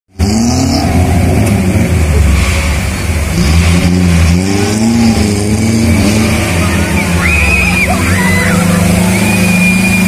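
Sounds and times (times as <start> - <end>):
car engine revving: 0.1 - 10.0
water rushing: 0.2 - 10.0.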